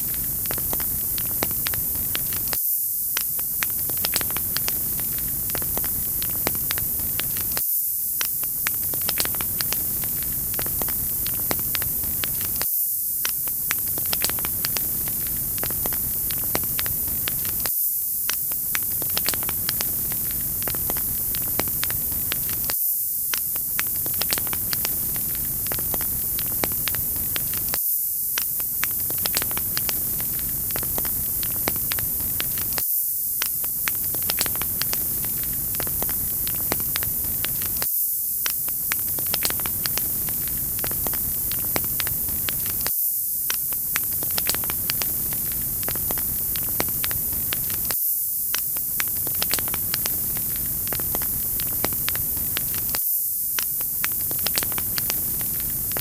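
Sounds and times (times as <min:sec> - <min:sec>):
wood fire crackling: 0:00.0 - 0:02.6, 0:03.2 - 0:07.6, 0:08.2 - 0:12.6, 0:13.3 - 0:17.7, 0:18.3 - 0:22.7, 0:23.3 - 0:27.8, 0:28.6 - 0:32.8, 0:33.4 - 0:42.9, 0:43.5 - 0:53.0, 0:53.6 - 0:56.0.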